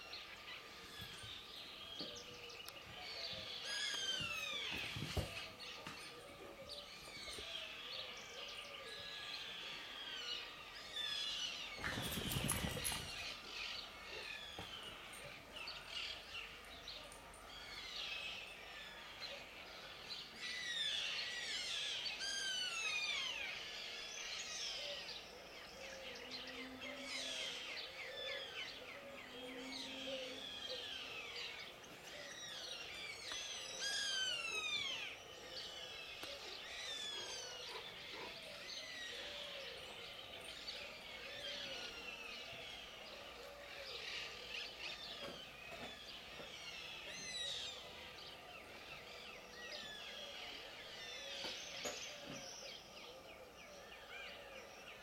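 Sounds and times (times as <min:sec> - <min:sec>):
birds singing in chorus: 0:00.0 - 0:55.0.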